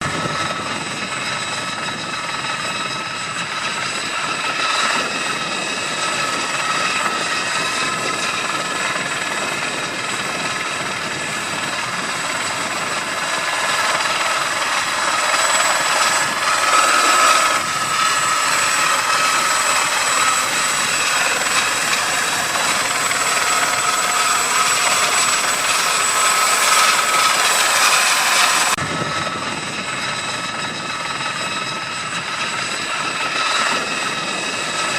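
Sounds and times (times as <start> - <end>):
helicopter rotor and engine: 0.0 - 34.9
high-pitched whine: 0.0 - 34.9.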